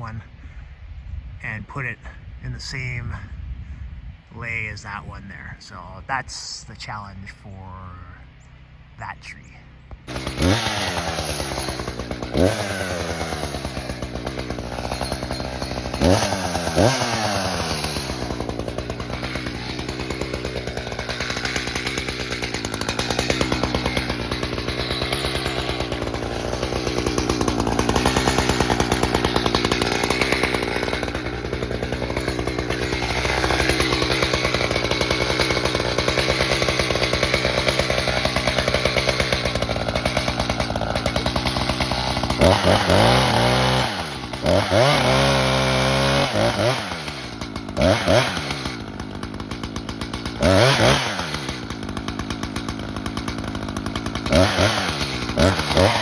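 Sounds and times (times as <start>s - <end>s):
chainsaw revving: 10.0s - 56.0s.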